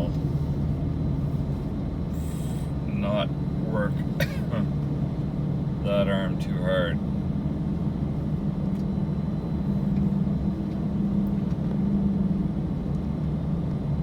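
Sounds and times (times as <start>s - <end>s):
road and engine hum in car: 0.0s - 14.0s.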